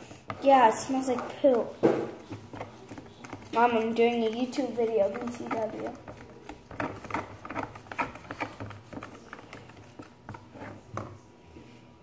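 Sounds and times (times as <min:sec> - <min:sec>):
plastic spoon scraping plastic tub: 0:00.0 - 0:11.2.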